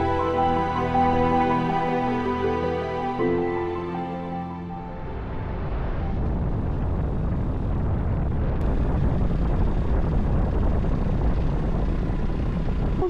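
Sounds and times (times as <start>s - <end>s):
deep rumble: 0.0s - 13.0s
rushing wind: 0.0s - 13.0s.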